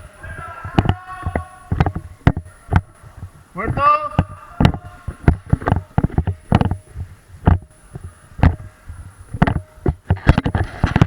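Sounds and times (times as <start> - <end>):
sharp knocks and clicks: 0.6 - 8.7, 9.3 - 11.0.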